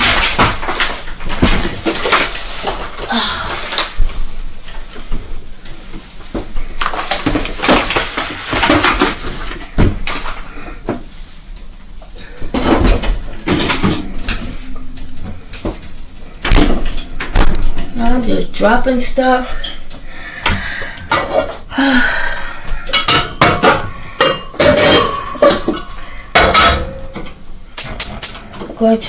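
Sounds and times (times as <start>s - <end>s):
groceries and containers clattering: 0.0s - 29.0s.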